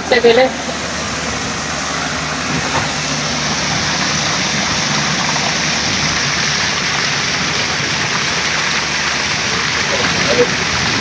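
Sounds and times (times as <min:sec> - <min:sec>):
water rushing down a slide tube: 0:00.0 - 0:11.0.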